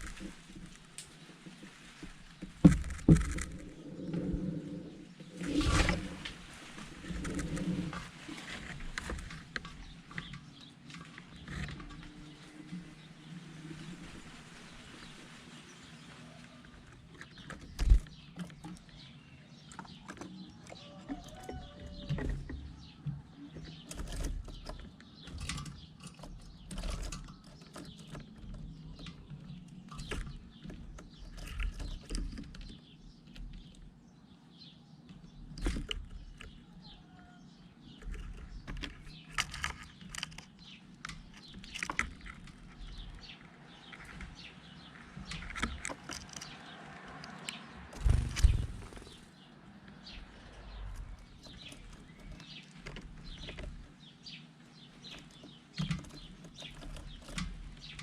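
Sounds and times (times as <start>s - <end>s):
birds tapping and rustling: 0.0s - 58.0s.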